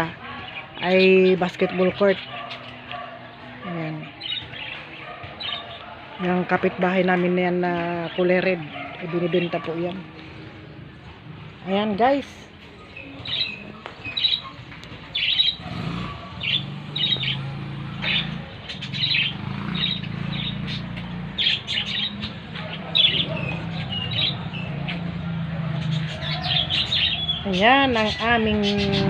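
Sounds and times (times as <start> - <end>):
small birds chirping and squawking: 0.0 - 29.0.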